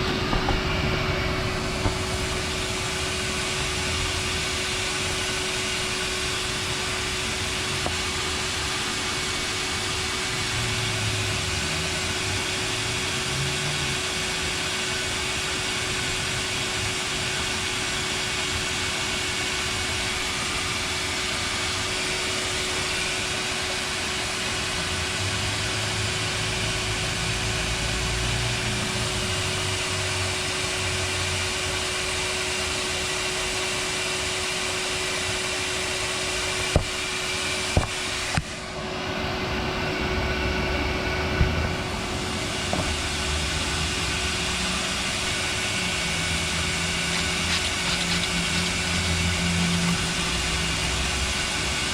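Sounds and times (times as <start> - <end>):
shop vac motor whine: 0.0 - 51.9.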